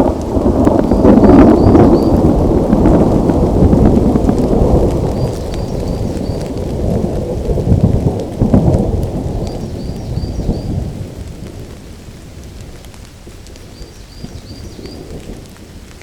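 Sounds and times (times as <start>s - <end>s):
rolling thunder: 0.0s - 15.9s
steady rain: 0.0s - 16.0s.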